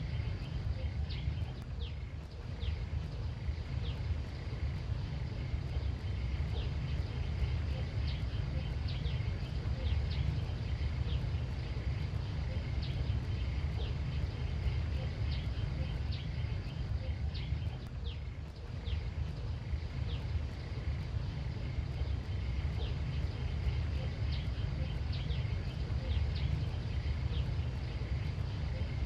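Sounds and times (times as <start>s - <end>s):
faint high drone: 0.0s - 29.0s
steady low rumble: 0.0s - 29.0s.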